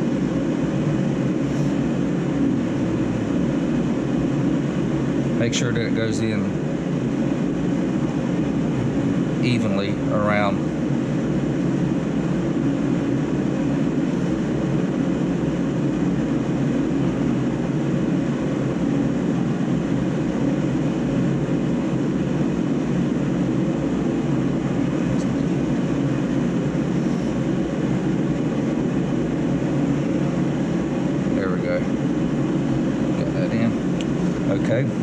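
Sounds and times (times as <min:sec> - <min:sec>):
low mechanical drone: 0:00.0 - 0:35.0.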